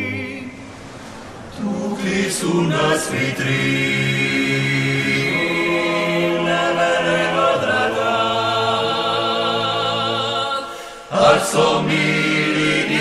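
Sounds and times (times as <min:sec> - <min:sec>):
choir singing a cappella harmony: 0:00.0 - 0:00.9, 0:01.5 - 0:13.0.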